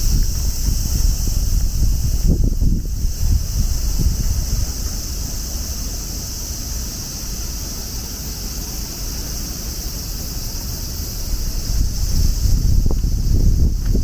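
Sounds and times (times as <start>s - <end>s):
steady high hiss: 0.0s - 14.0s
wind buffeting microphone: 0.0s - 14.0s.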